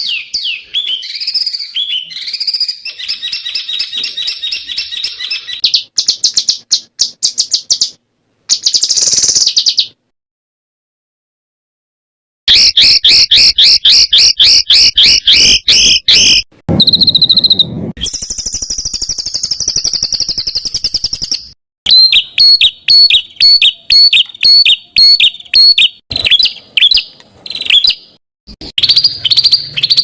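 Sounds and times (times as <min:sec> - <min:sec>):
songbird singing: 0:00.0 - 0:10.0, 0:12.5 - 0:30.0.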